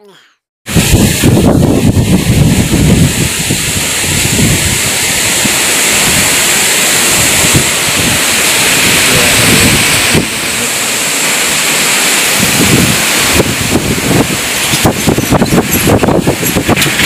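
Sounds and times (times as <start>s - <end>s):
strong wind rushing: 0.6s - 17.0s
wind buffeting the microphone: 0.6s - 17.0s.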